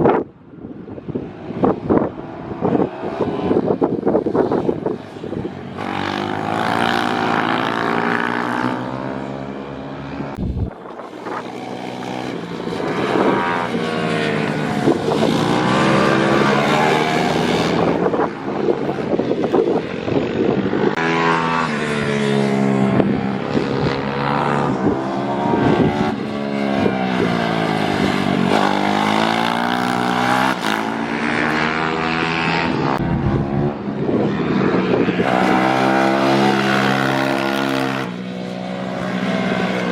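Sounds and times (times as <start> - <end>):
pit bike engines revving: 2.0 - 39.9.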